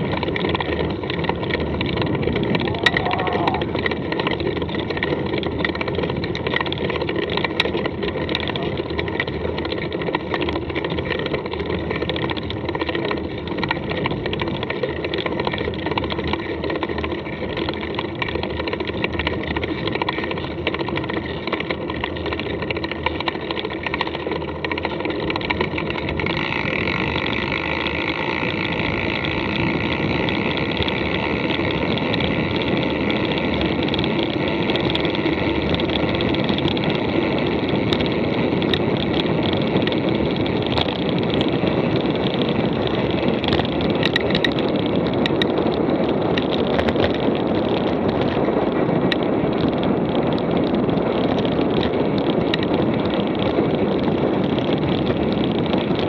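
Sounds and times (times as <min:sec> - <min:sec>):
bike clicks and rattles: 0:00.0 - 0:56.0
bike tyres rolling on dirt: 0:00.0 - 0:56.0
wind over microphone: 0:00.0 - 0:56.0.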